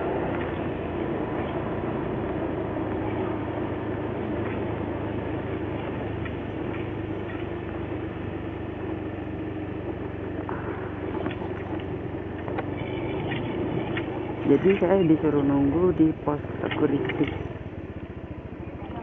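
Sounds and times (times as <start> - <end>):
motor scooter engine humming: 0.0 - 19.0.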